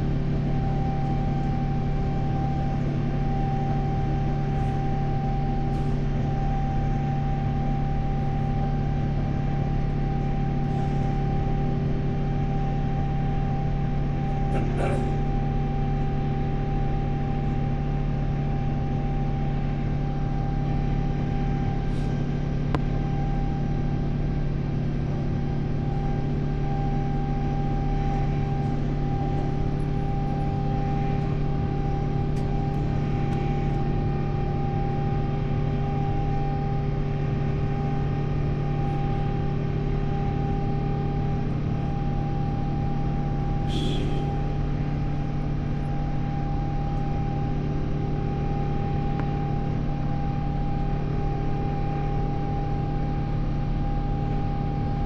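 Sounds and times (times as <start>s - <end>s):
constant low hum: 0.0s - 55.0s
engine and airflow roar: 0.0s - 55.0s.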